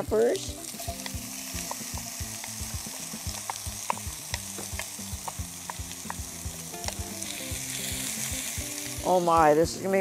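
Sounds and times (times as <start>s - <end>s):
food sizzling in a pot: 0.0s - 10.0s
popping and crackling: 0.5s - 9.2s.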